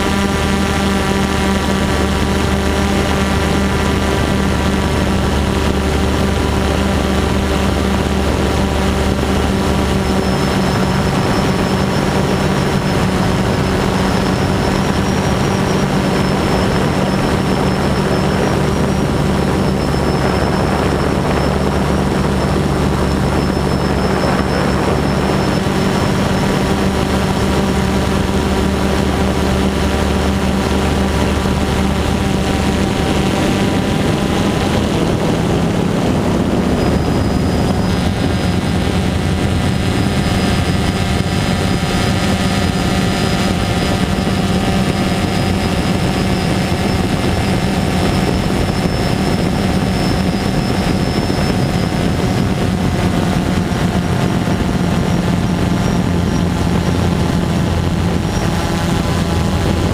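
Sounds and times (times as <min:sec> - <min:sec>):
drone motors humming and whining: 0:00.0 - 0:59.9.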